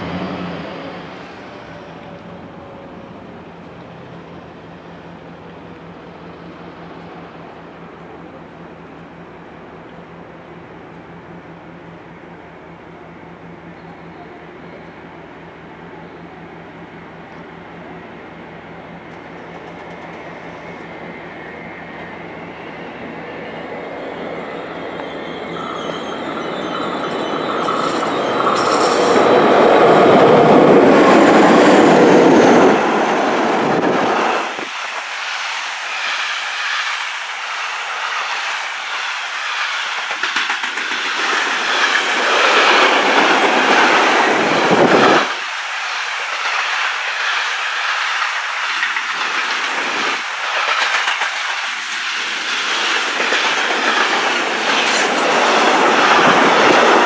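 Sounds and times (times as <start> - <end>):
freight train wheels on rails: 0.0 - 57.0
passenger train running past: 0.0 - 57.0.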